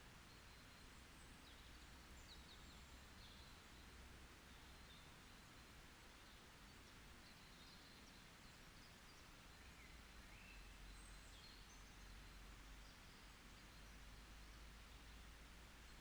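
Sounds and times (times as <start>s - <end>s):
soft background hiss: 0.0s - 16.0s.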